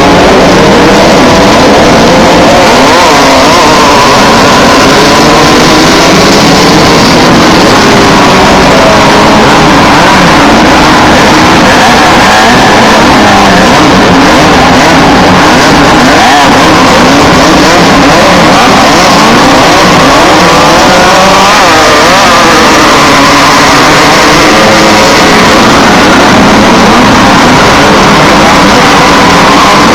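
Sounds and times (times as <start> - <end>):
race car engines revving: 0.0 - 29.9.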